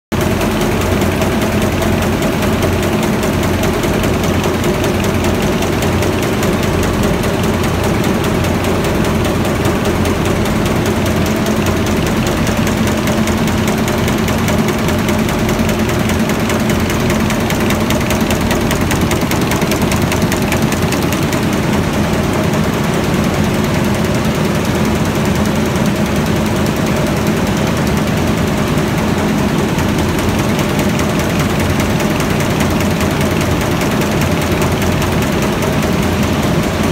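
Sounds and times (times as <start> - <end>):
knitting machine clattering: 0.2 - 36.9
machine hum: 0.2 - 36.9.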